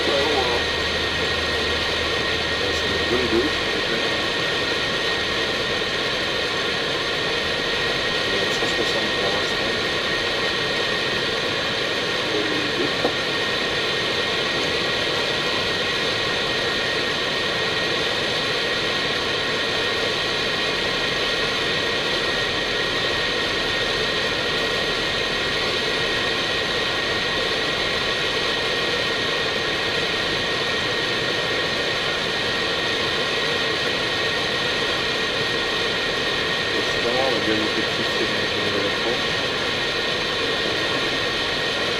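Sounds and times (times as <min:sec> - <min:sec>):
cockpit airflow and jet engine hiss: 0:00.0 - 0:41.9.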